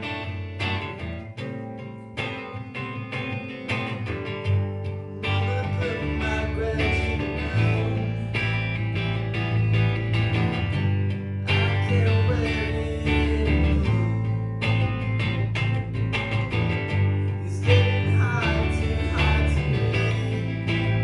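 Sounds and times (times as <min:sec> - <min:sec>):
guitars strumming chords: 0:00.0 - 0:21.0
low bass notes: 0:00.0 - 0:21.0.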